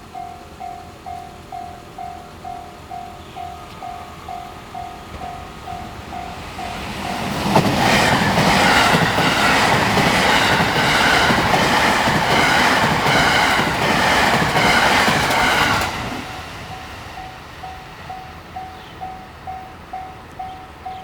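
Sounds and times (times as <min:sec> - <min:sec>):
train wheels clattering: 0:00.2 - 0:21.0.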